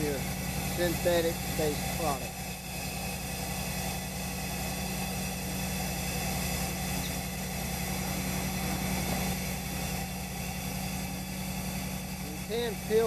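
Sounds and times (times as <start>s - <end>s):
machine humming with low throb: 0.0s - 13.0s.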